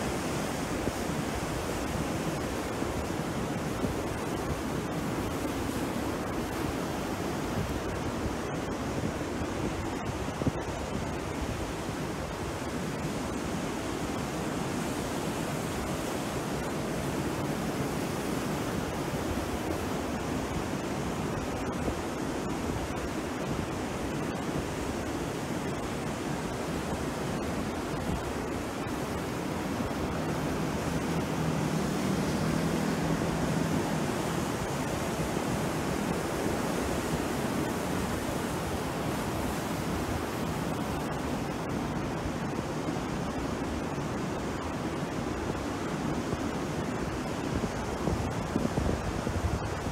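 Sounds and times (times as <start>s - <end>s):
sea surf breaking on shore: 0.0s - 49.9s.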